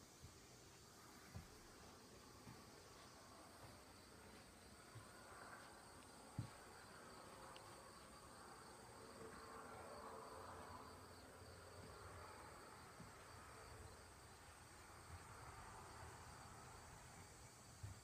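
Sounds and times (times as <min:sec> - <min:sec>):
faint high whine: 0:00.0 - 0:18.0.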